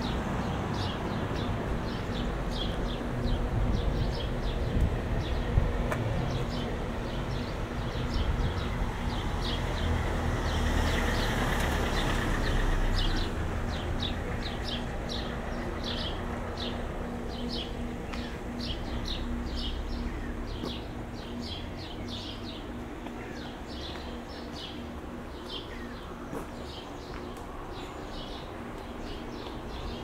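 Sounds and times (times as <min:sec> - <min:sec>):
passing vehicle rumble: 0:00.0 - 0:30.0
small birds chirping: 0:00.0 - 0:30.0.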